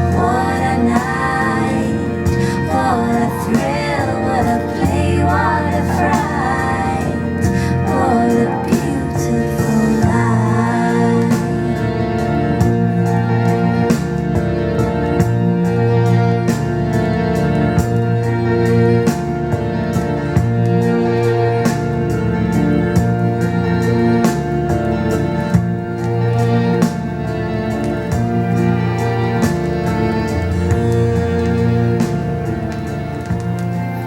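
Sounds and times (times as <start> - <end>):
instrumental music with steady beat: 0.0 - 34.0.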